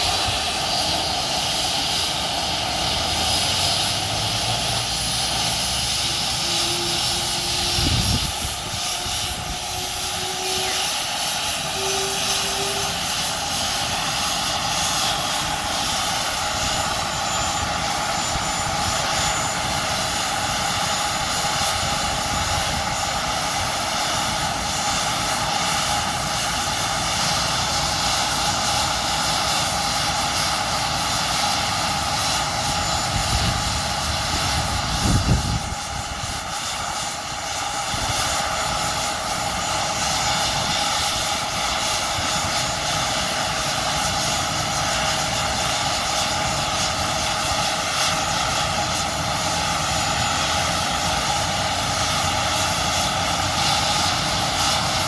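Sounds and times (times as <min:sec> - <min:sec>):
helicopter turbine whine: 0:00.0 - 0:55.0.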